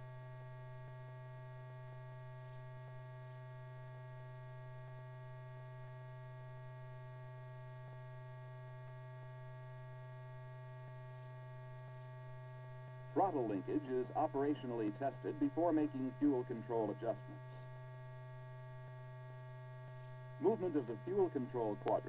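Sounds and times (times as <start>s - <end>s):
faint steady tones: 0.0s - 22.0s
steady electrical hum: 0.0s - 22.0s.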